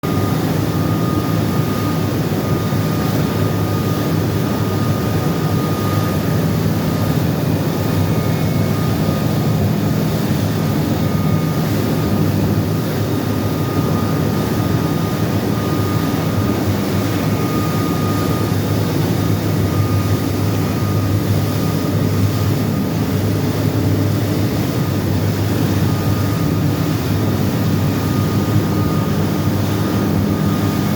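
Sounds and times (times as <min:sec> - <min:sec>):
boat engine at full throttle: 0:00.0 - 0:30.9
constant rushing noise: 0:00.0 - 0:30.9.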